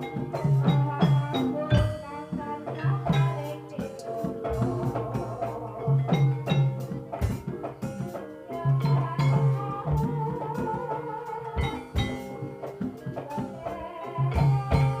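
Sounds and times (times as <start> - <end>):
gamelan metallophone notes: 0.0 - 15.0
hand drum strokes: 0.0 - 15.0.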